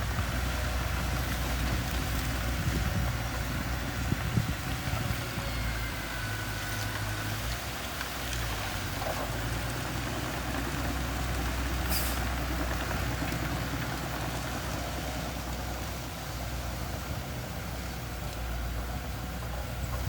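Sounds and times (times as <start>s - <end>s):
diesel engine rumbling: 0.0s - 20.0s.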